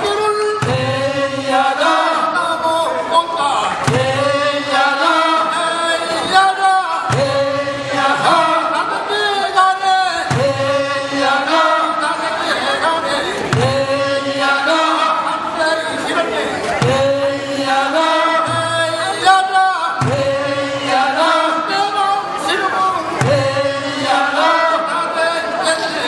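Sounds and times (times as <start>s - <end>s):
men chanting work song: 0.0s - 26.0s.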